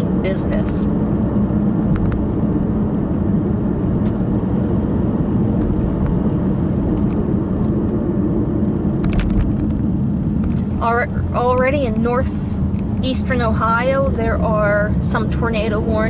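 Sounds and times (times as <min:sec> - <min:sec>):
car cabin engine and road noise: 0:00.0 - 0:16.0.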